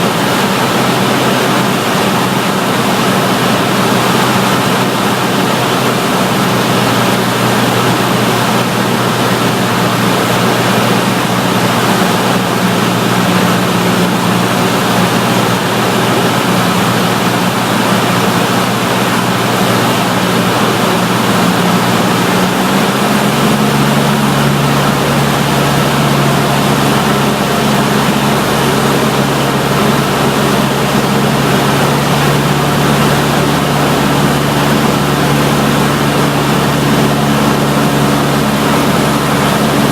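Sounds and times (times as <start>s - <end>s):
aircraft engine and propeller: 0.0s - 39.9s
rush of air: 0.0s - 39.9s.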